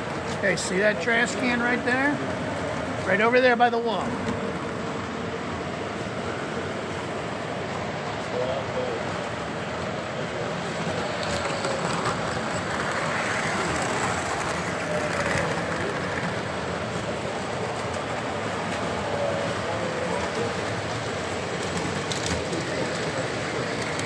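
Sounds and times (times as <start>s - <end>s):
model trains rumbling on track: 0.0s - 24.0s.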